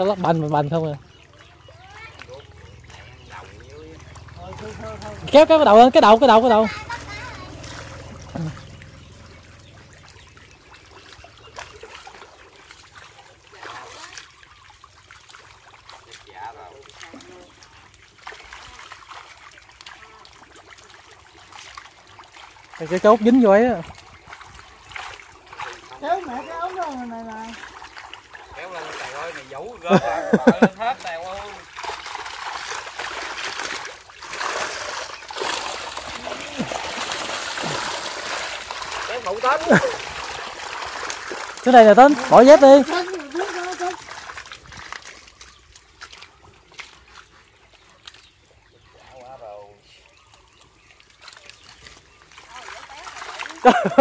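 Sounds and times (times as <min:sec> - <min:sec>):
muddy water trickling and splashing: 0:00.0 - 0:54.0.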